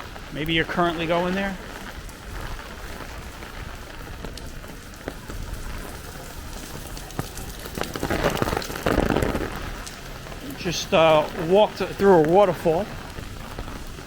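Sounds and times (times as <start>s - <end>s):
rain on wet pavement: 0.0s - 14.0s
water pouring down from overhead: 0.0s - 14.0s.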